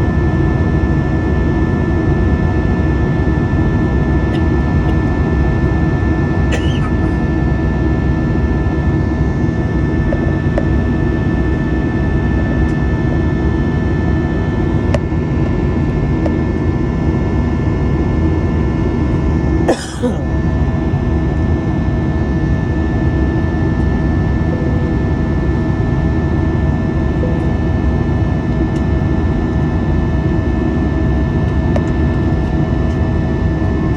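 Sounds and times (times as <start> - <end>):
airplane cabin engine rush: 0.0 - 33.9.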